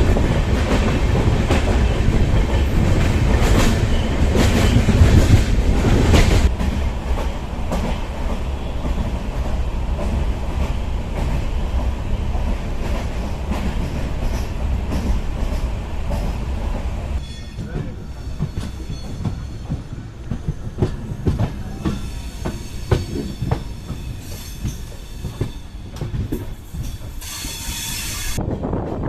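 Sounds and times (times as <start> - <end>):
clickety-clack of wheels: 0.0 - 16.4, 17.6 - 27.7
train rumbling on rails: 0.0 - 29.0.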